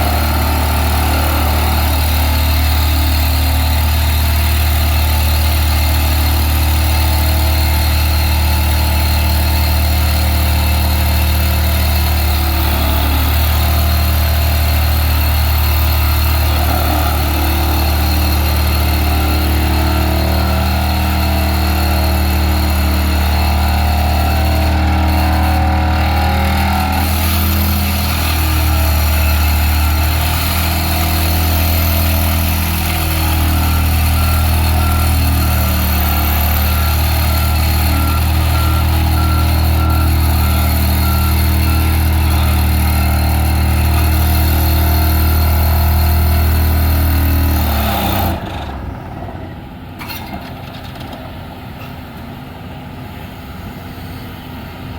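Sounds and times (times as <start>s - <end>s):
vibratory pile driver drone: 0.0s - 48.7s
excavator engine running: 0.0s - 54.9s.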